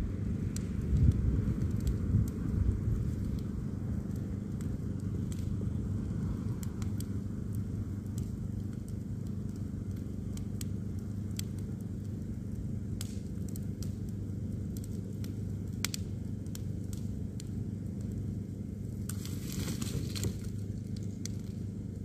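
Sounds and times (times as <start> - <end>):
bonfire crackling and popping: 0.0 - 22.0
low fire rumble: 0.0 - 22.0.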